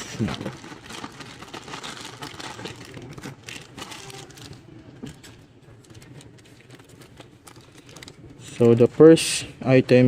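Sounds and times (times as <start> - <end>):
packaging rustling: 0.0 - 8.9.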